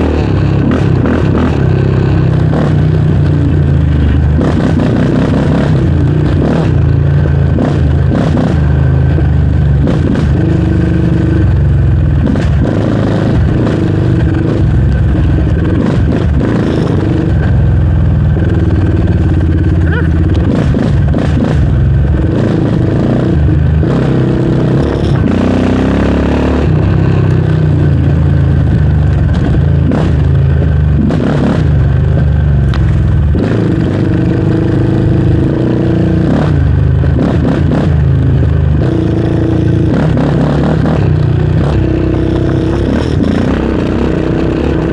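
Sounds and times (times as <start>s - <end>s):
quad engine running: 0.0s - 44.9s.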